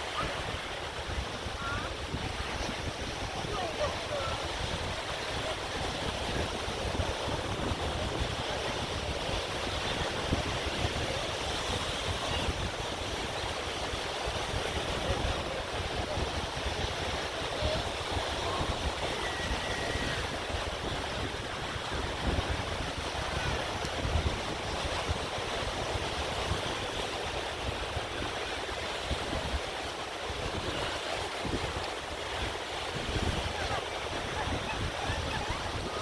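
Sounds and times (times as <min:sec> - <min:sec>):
ocean surf washing on beach: 0:00.0 - 0:36.0
wind buffeting microphone: 0:00.0 - 0:36.0.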